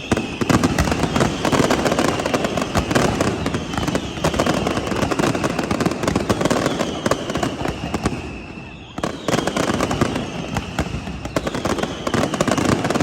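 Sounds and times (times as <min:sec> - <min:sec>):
falling firework whistle: 0:00.0 - 0:13.0
fireworks crackling bangs: 0:00.0 - 0:13.0.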